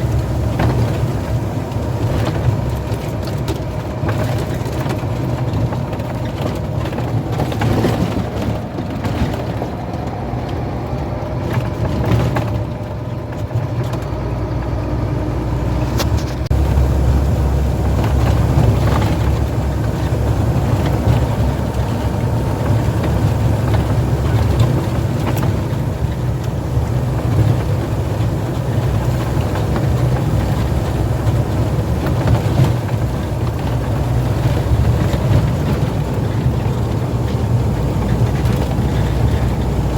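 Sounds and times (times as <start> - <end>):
heavy truck engine drone: 0.0 - 39.9
road noise: 0.0 - 39.9.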